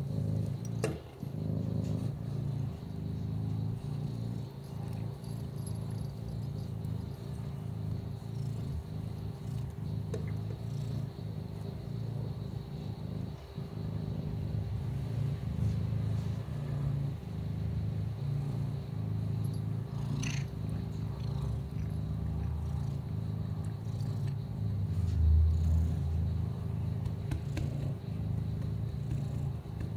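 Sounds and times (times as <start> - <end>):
kitten purring: 0.0 - 29.9.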